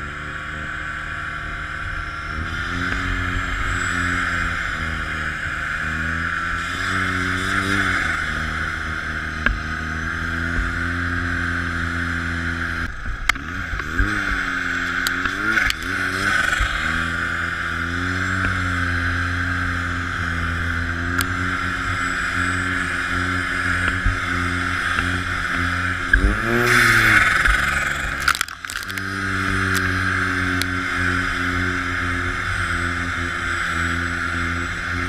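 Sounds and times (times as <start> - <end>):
snowmobile engine running: 0.0 - 35.0
track and wind noise: 0.0 - 35.0.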